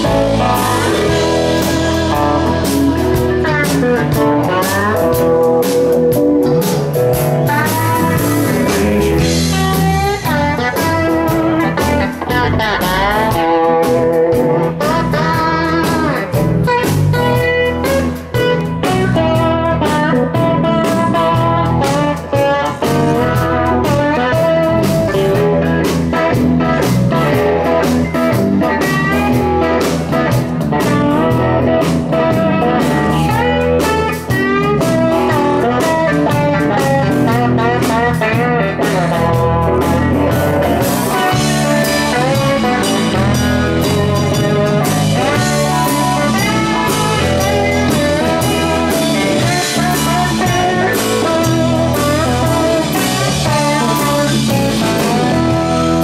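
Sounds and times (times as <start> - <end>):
blues-rock band playing: 0.0 - 56.0.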